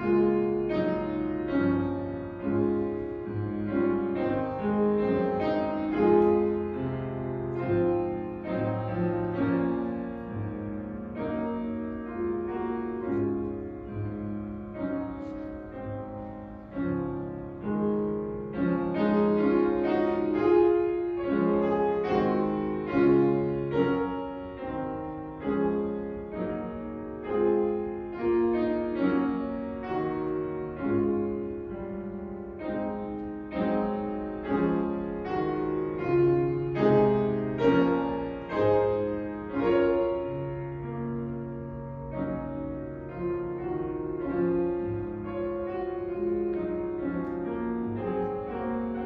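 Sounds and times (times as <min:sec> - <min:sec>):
slow piano piece: 0:00.0 - 0:49.0.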